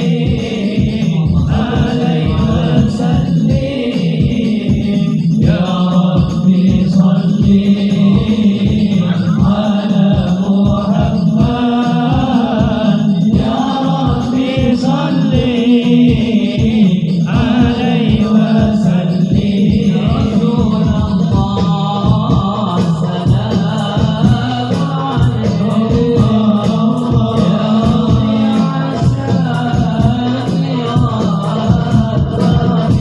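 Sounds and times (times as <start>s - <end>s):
devotional chant singing: 0.0s - 33.0s.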